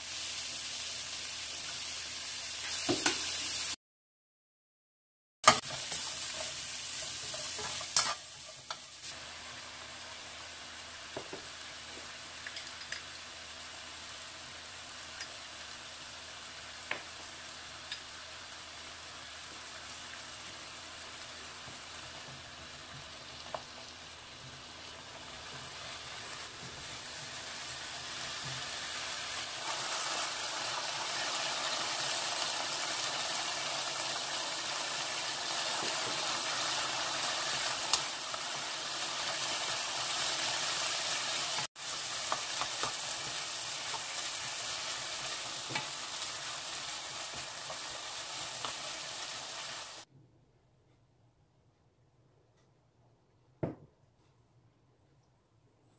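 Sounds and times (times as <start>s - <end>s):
mushrooms sizzling in a wok: 0.0s - 3.8s, 5.4s - 50.1s.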